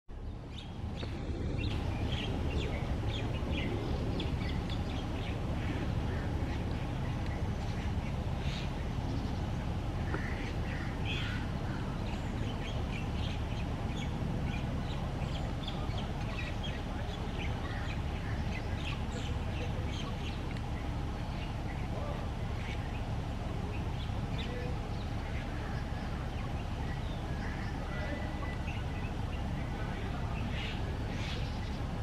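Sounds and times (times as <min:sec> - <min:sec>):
low background rumble: 0:00.1 - 0:32.0
small birds chirping: 0:00.1 - 0:32.0.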